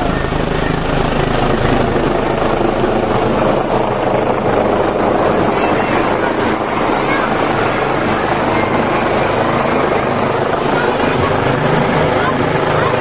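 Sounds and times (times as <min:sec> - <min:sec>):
helicopter flying low overhead: 0:00.0 - 0:13.0.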